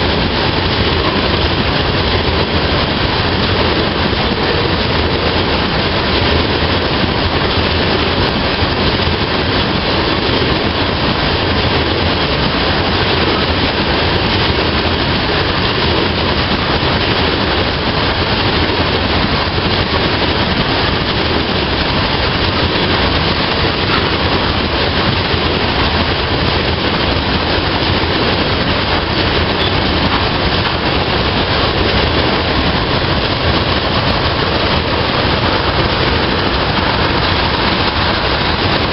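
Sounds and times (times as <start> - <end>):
steel train wheels on rails: 0.0 - 38.9.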